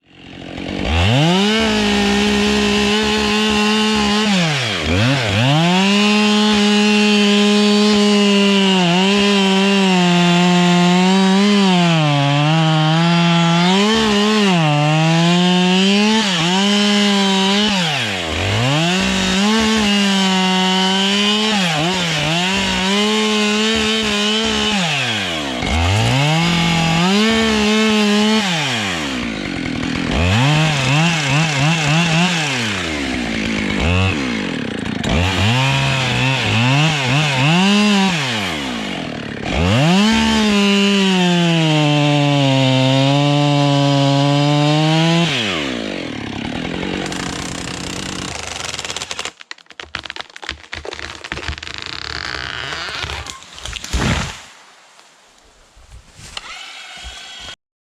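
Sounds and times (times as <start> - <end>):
chainsaw cutting wood: 0.0 - 55.0, 56.0 - 57.6.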